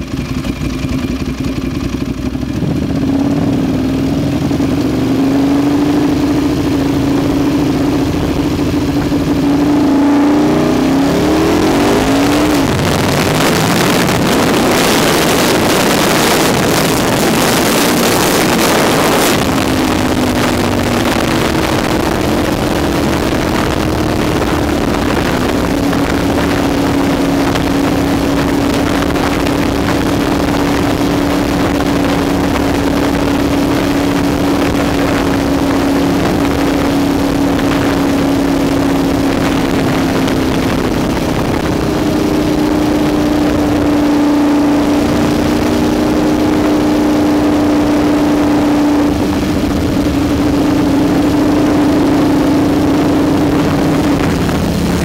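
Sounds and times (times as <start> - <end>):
motorcycle engine accelerating: 0.0 - 55.0
wind rush on microphone: 2.5 - 55.0.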